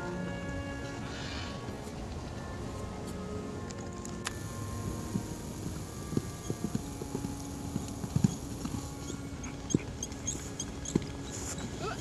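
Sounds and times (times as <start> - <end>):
hooves thudding on grass: 0.3 - 12.0.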